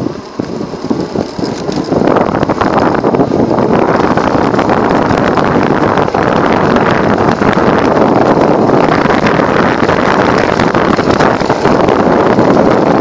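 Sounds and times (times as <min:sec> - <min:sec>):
scooter road rumble: 0:00.0 - 0:13.0
wind buffeting microphone: 0:00.0 - 0:13.0.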